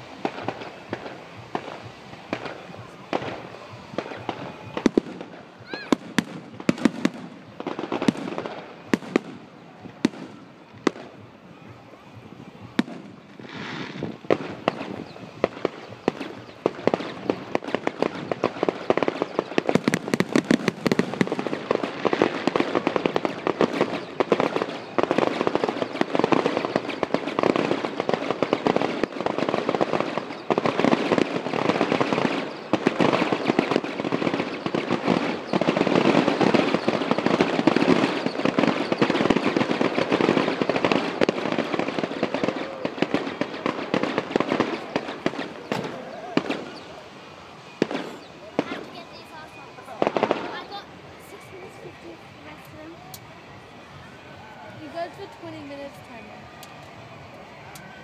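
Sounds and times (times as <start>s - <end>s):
fireworks bursting in bangs: 0.0s - 58.0s.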